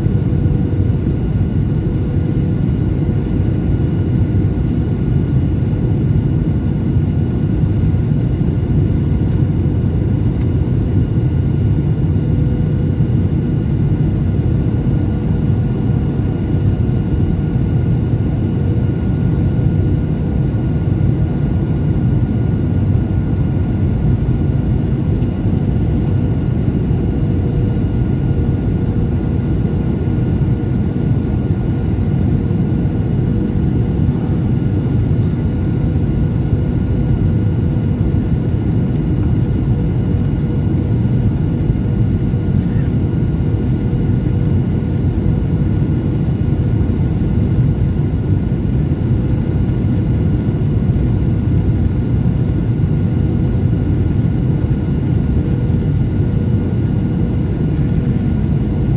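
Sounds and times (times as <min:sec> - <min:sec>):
airliner cabin engine rumble: 0:00.0 - 0:58.9
faint steady whine: 0:00.0 - 0:58.9.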